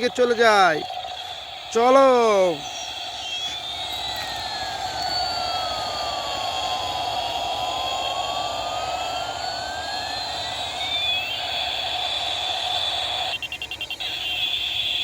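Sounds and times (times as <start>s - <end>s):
jet engine whine: 0.0s - 15.0s
rapid stutter: 0.0s - 15.0s
whistling tones sweeping in pitch: 0.0s - 15.0s.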